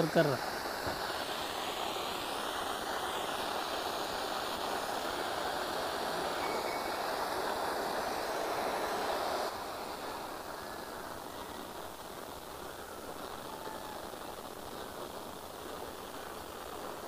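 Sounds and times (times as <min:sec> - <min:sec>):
gas flame hissing: 0:00.0 - 0:17.0.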